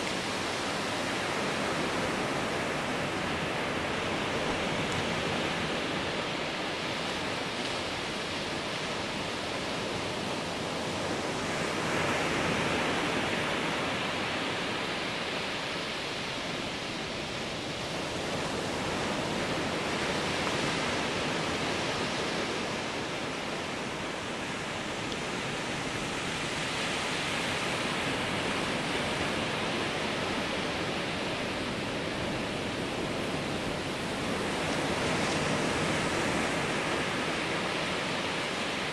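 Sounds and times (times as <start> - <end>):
ocean surf breaking on sand: 0.0 - 38.9.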